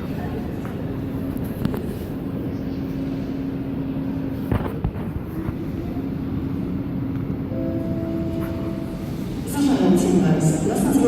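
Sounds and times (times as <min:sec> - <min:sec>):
train engine rumble and hum: 0:00.0 - 0:11.0.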